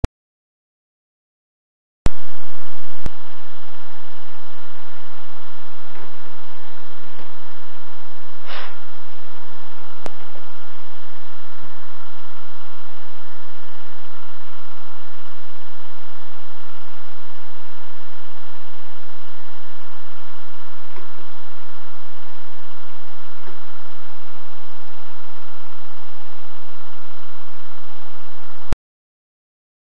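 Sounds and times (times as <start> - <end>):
loud hum and hiss: 2.1 - 28.7.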